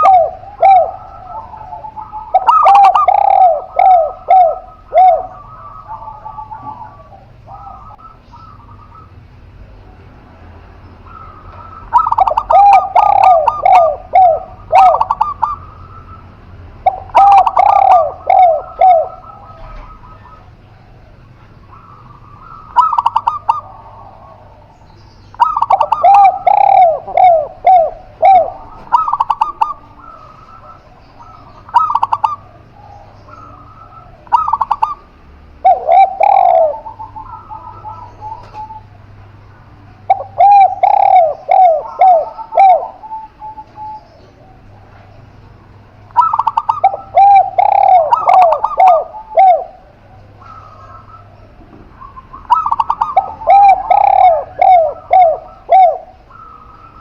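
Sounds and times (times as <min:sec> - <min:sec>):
spotted dove cooing: 0:00.0 - 0:09.2, 0:11.0 - 0:57.0
zebra dove cooing: 0:00.0 - 0:57.0.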